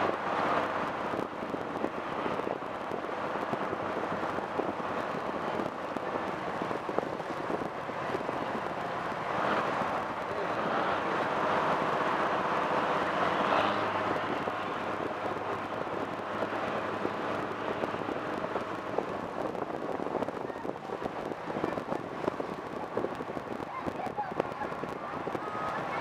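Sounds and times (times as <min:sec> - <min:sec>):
boat engine hum: 0:00.0 - 0:26.0
water rushing along hull: 0:00.0 - 0:26.0.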